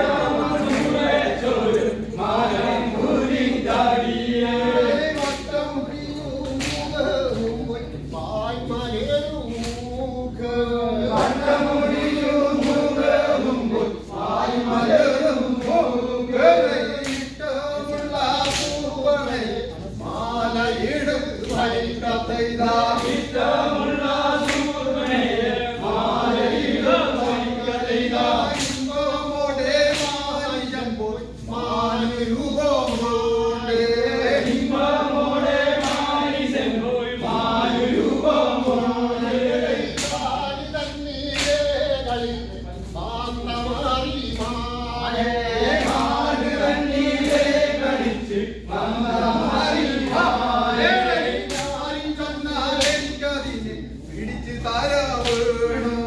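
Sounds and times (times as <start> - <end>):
men singing in unison: 0.0 - 56.0
sharp slaps or claps: 0.1 - 8.4, 9.0 - 10.1, 11.1 - 16.1, 16.7 - 36.6, 37.2 - 42.4, 43.2 - 48.3, 48.9 - 53.6, 54.8 - 55.9.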